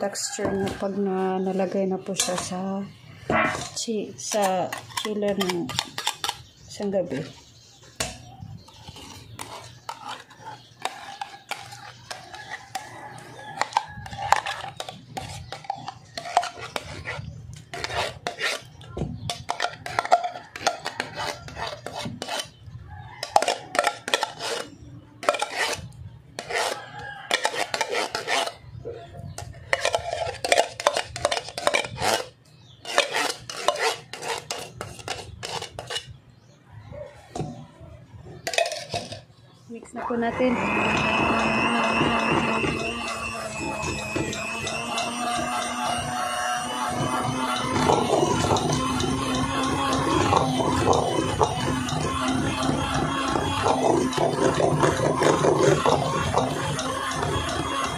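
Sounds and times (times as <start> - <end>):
metal spoon scraping tin can: 1.6 - 2.8, 3.4 - 7.4, 8.6 - 22.6, 23.2 - 28.6, 29.3 - 36.2, 38.4 - 39.3, 40.9 - 57.9.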